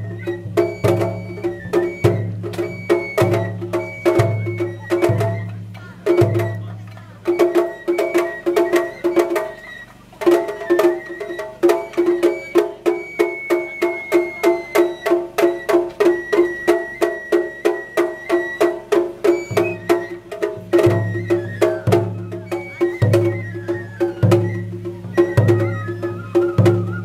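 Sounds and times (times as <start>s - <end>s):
drums in fast beat: 0.0s - 27.0s
high bamboo flute: 0.0s - 27.0s.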